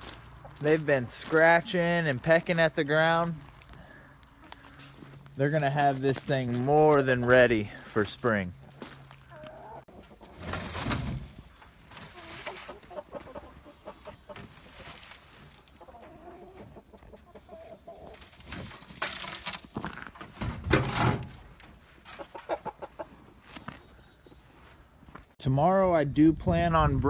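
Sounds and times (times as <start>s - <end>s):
chickens clucking: 0.0s - 18.9s, 21.6s - 24.7s.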